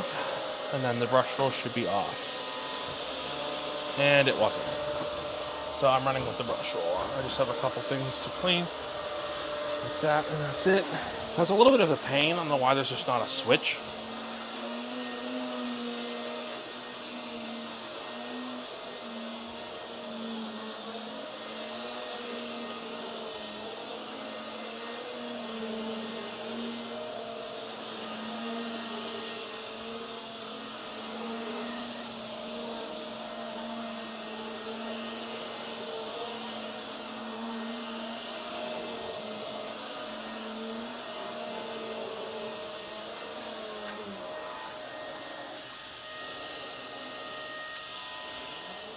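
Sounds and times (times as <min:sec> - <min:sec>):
vacuum cleaner whine and hum: 0:00.0 - 0:48.9.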